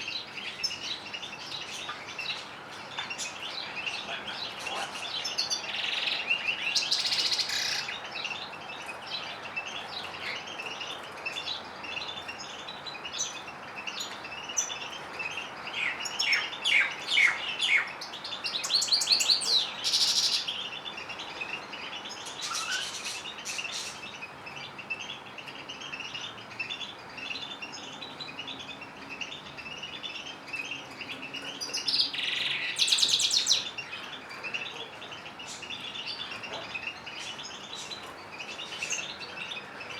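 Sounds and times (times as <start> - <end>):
songbirds twittering and trilling: 0.0 - 39.9.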